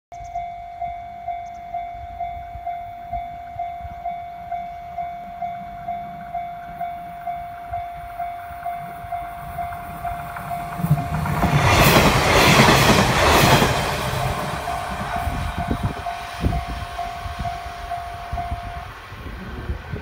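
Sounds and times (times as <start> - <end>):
level crossing warning bell: 0.2 - 19.2.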